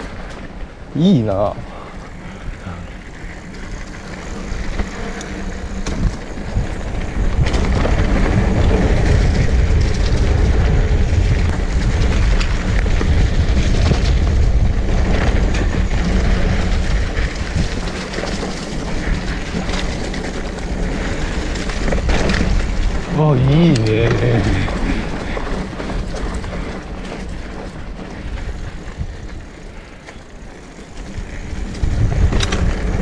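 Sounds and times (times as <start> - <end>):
bike frame rattling: 0.0 - 33.0
bike tyres crunching over dirt: 0.0 - 33.0
wind rumble on microphone: 0.0 - 33.0.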